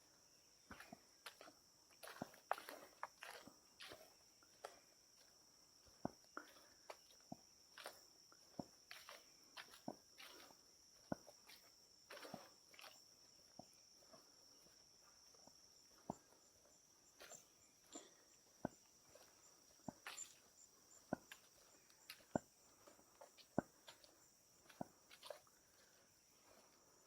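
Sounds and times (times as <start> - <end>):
footsteps on trail: 0.6 - 27.0.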